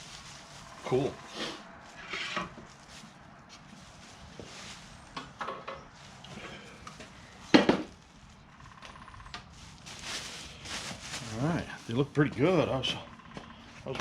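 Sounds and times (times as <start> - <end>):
packaging rustling: 0.0 - 12.2.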